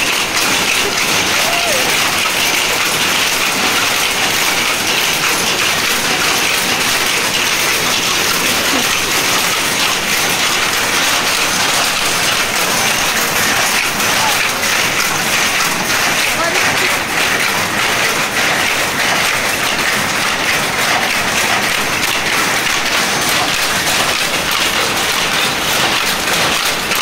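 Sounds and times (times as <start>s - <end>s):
power loom clattering: 0.0s - 27.0s.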